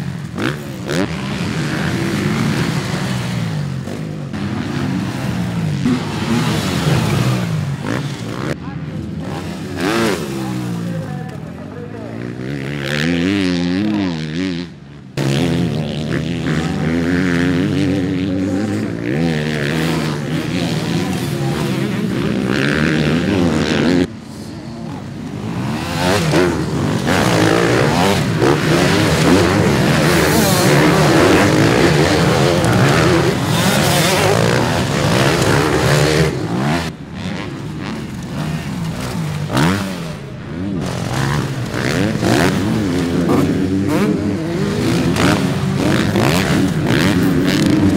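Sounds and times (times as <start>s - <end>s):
dirt bike engine revving: 0.0s - 47.9s
pack of dirt bikes accelerating: 0.0s - 47.9s.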